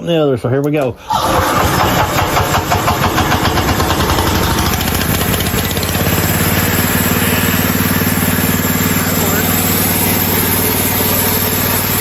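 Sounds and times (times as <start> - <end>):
small gasoline engine running: 1.1 - 12.0.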